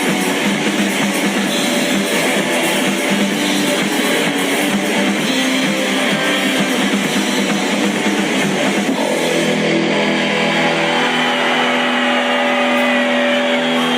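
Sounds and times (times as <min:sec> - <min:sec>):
guitar rock music: 0:00.0 - 0:13.9.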